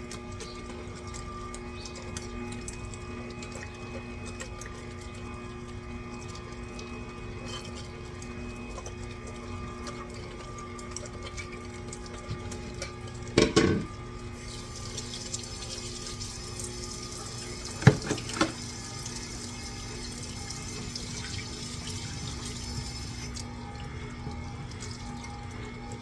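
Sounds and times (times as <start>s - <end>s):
electric food grinder running: 0.0s - 26.0s.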